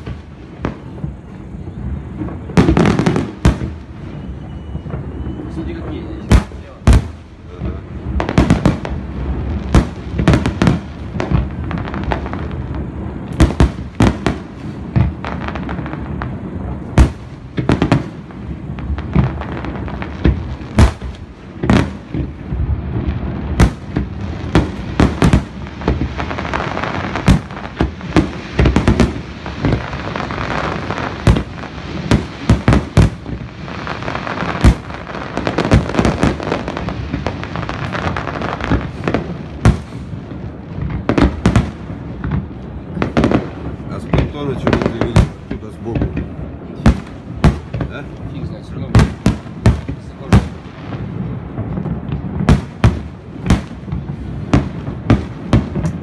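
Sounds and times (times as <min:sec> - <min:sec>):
firework shells bursting: 0:00.0 - 0:48.3, 0:48.9 - 0:56.0
distant detonations rumbling: 0:00.0 - 0:56.0.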